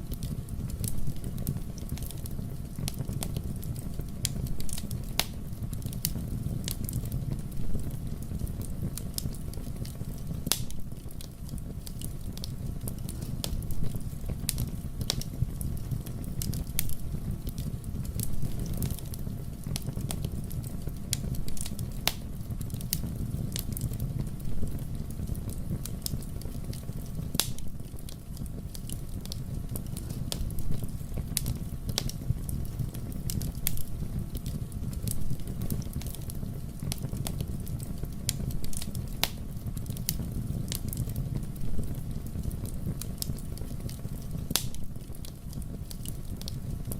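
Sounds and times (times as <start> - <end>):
fire popping and crackling: 0.0 - 46.9
low rumble of flames: 0.0 - 46.9.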